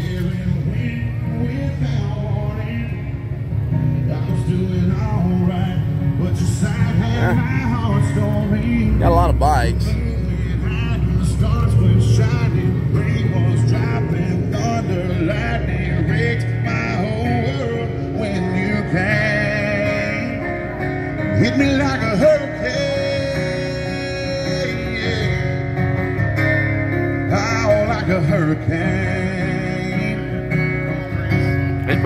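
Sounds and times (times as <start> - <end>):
man singing: 0.0 - 26.0, 27.2 - 32.0
acoustic guitar: 0.0 - 32.0.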